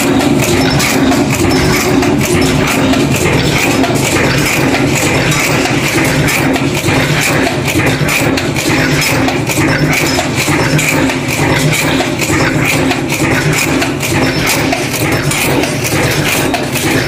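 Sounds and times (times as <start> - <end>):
machine hum: 0.0 - 17.0
rhythmic metallic clatter: 0.0 - 17.0.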